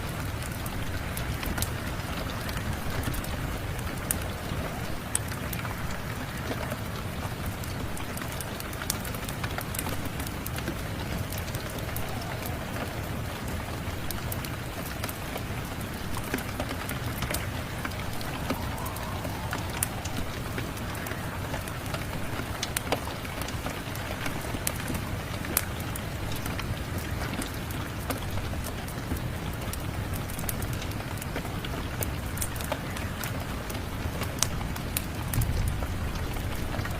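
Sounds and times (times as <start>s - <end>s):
steady rain: 0.0s - 36.9s
wood fire crackling: 0.0s - 36.9s.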